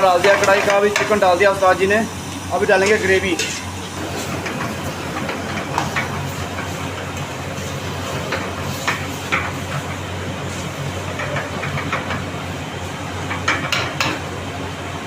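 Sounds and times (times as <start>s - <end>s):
chicken frying hiss: 0.0s - 14.7s.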